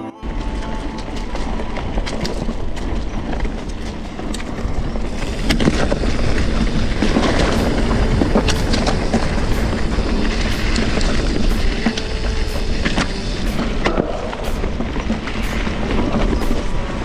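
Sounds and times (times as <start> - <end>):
bike rattles and clicks: 0.2 - 17.0
wind rushing over microphone: 0.3 - 17.0.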